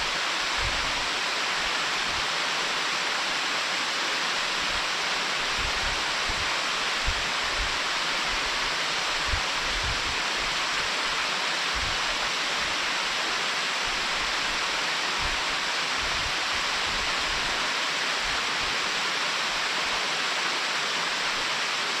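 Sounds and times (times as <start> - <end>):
stream rushing over a dam: 0.0 - 22.0.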